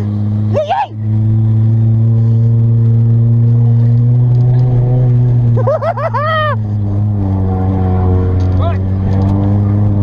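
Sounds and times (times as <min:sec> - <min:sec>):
car engine running hard: 0:00.0 - 0:10.0.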